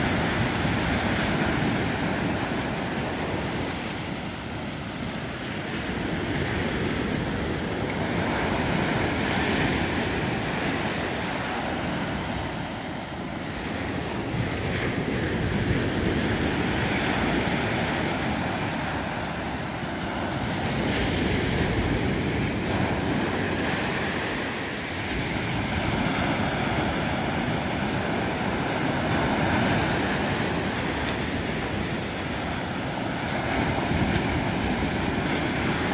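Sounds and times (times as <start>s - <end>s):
ocean surf breaking on beach: 0.0s - 35.9s.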